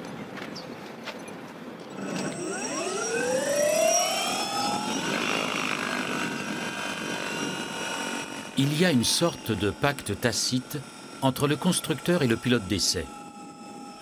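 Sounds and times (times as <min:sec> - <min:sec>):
electric motor whine: 0:01.9 - 0:14.0.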